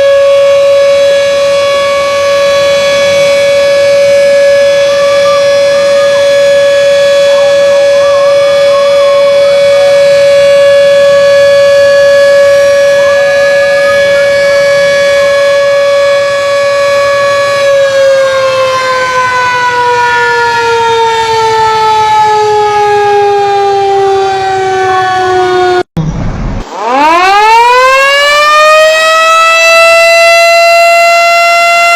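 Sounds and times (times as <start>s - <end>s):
loud siren held tone: 0.0s - 31.9s.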